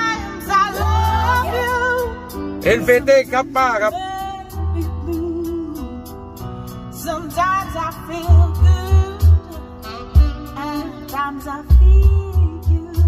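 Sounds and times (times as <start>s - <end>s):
pop song woman singing with guitar: 0.0s - 2.8s, 3.8s - 13.0s.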